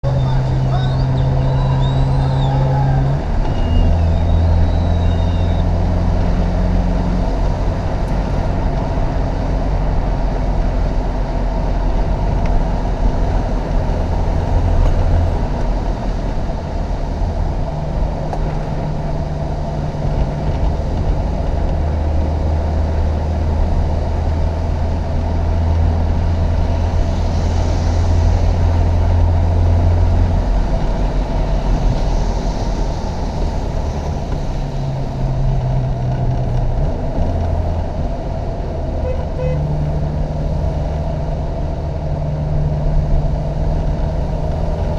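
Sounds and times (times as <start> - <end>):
car engine running hard: 0.0 - 44.9
steady rushing noise: 0.0 - 44.9.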